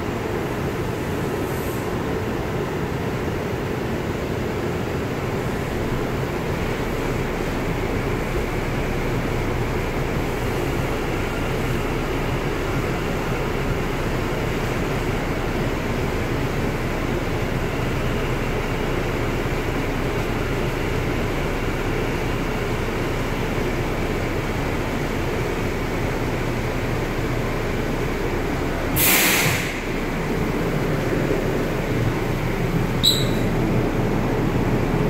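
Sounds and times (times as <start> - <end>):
subway wheels rumbling on rails: 0.0 - 35.0.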